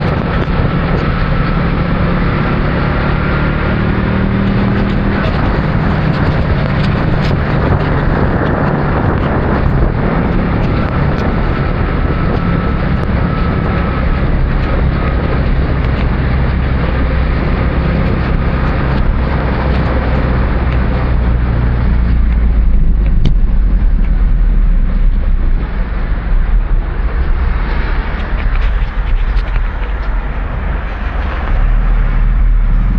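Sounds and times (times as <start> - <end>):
heavy low rumble: 0.0 - 32.9
motorcycle engine humming: 0.0 - 32.9
road and wind noise: 0.0 - 32.9.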